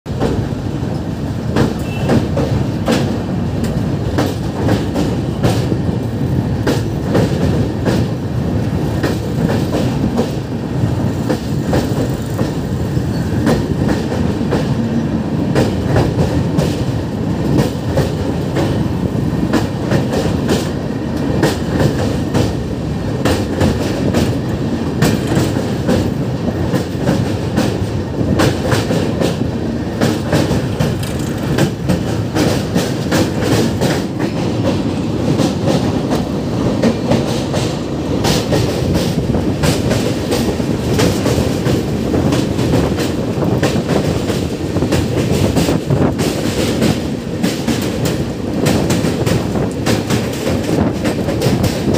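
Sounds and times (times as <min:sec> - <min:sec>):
train wheels rumbling on bridge: 0:00.0 - 0:51.9
wheels clickety-clack: 0:00.1 - 0:51.9.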